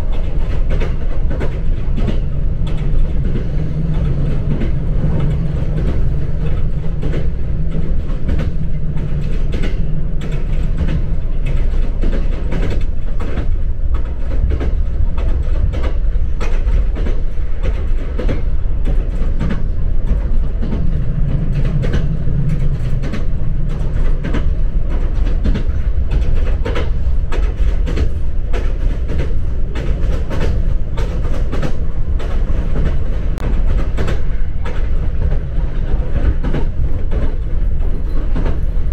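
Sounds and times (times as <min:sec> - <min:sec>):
train carriage rumble: 0:00.0 - 0:38.9
wheels clicking and rattling: 0:00.0 - 0:38.9.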